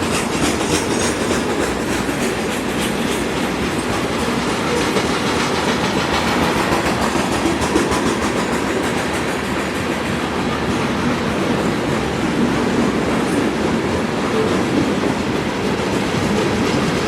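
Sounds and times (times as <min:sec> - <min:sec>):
freight train wheels rolling: 0:00.0 - 0:17.0
wheels clicking over rail joints: 0:00.0 - 0:17.0.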